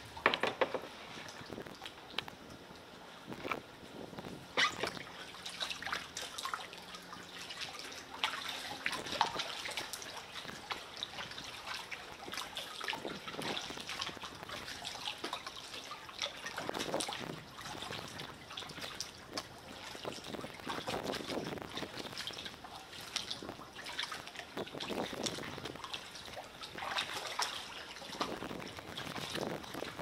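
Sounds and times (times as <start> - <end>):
water dripping off paddle: 4.8 - 29.8.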